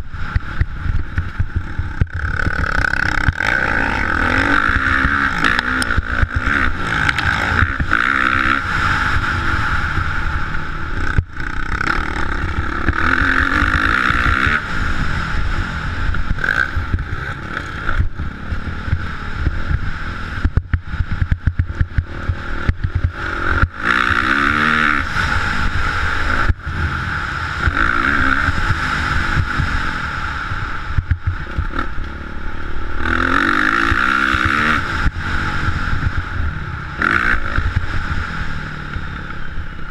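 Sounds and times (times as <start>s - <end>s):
motorcycle engine revving: 0.0s - 39.9s
steady rushing hiss: 0.0s - 39.9s.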